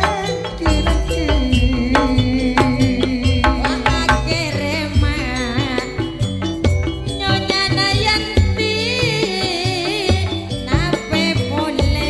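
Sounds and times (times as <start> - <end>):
gamelan percussive strokes: 0.0 - 12.0
ringing pitched instruments: 0.0 - 12.0.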